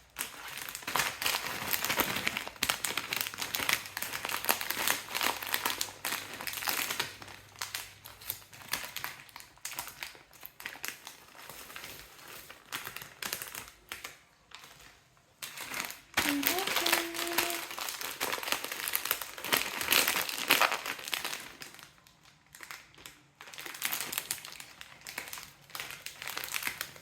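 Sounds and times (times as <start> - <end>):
plastic packets crinkling: 0.0 - 27.0.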